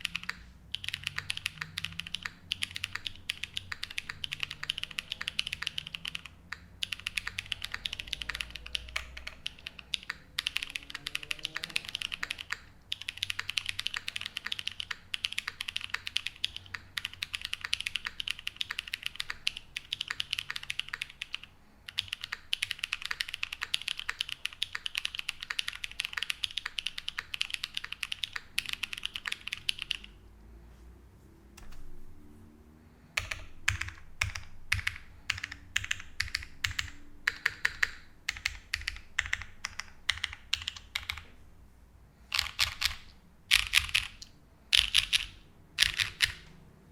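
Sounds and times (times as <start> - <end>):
fast keyboard typing clacks: 0.0 - 30.1, 33.2 - 41.3, 42.3 - 46.5.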